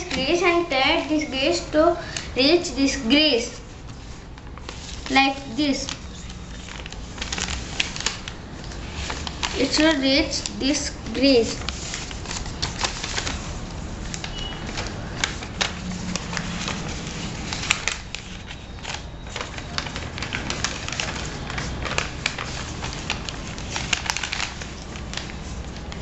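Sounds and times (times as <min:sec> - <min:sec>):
low background noise: 0:00.0 - 0:26.0
paper being folded and creased: 0:00.0 - 0:26.0.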